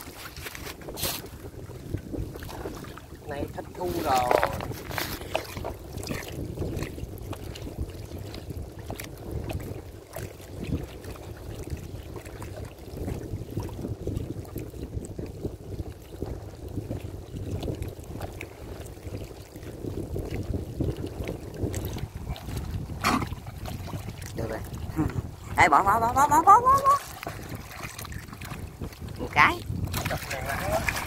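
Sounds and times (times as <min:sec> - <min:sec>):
water sloshing and lapping: 0:00.0 - 0:31.0
wind on microphone: 0:00.0 - 0:31.0.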